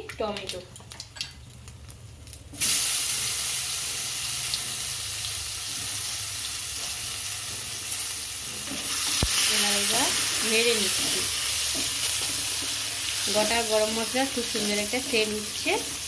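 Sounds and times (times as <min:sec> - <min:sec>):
food sizzling in hot oil: 0:01.0 - 0:16.0.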